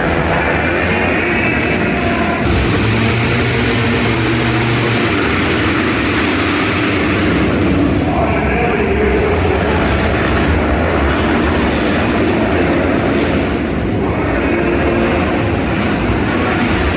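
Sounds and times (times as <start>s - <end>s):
motocross bike engines revving: 0.0s - 16.9s.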